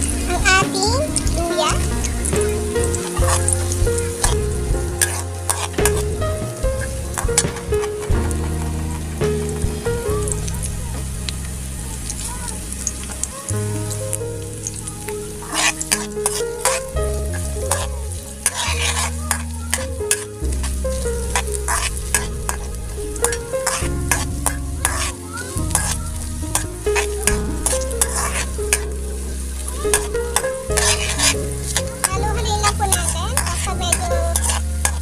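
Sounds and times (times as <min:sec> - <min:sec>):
spatula scraping pan: 0:00.0 - 0:09.7, 0:12.6 - 0:35.0
food sizzling in oil: 0:00.0 - 0:35.0.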